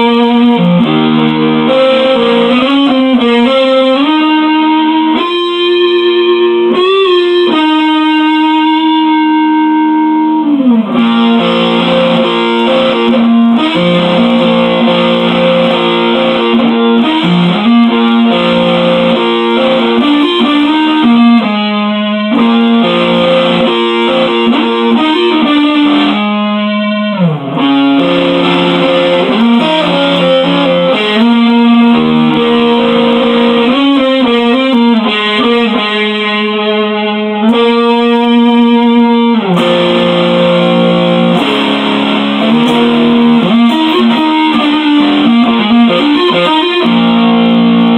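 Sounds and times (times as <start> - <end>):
electric guitar with effects: 0.0 - 47.9.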